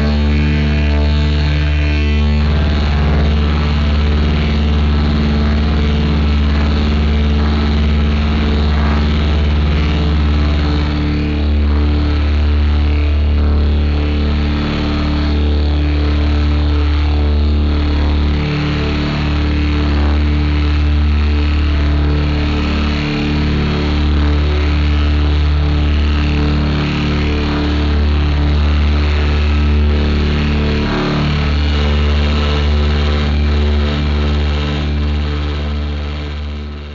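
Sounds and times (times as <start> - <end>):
distorted amplifier feedback drone: 0.0 - 36.9.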